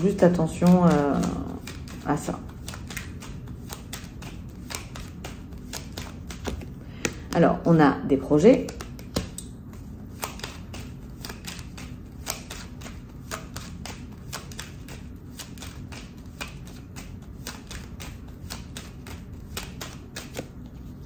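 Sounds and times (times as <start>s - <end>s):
cards shuffled by hand: 0.0s - 7.4s, 8.6s - 21.0s.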